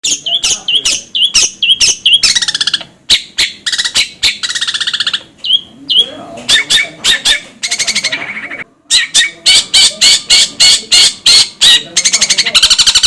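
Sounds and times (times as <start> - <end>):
bird harsh rattling trills: 0.0 - 13.0
songbird chirping: 0.0 - 13.0.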